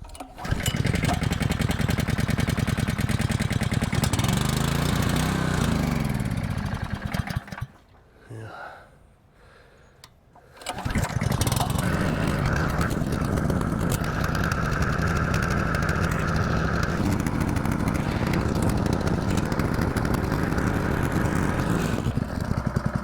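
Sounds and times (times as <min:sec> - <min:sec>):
water pump engine running: 0:00.4 - 0:07.8, 0:10.6 - 0:23.0.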